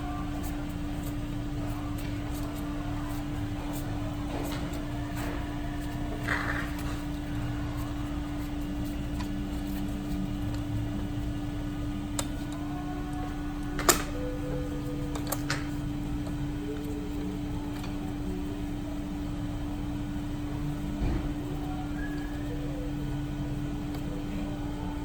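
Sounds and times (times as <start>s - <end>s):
workshop equipment humming: 0.0s - 25.0s.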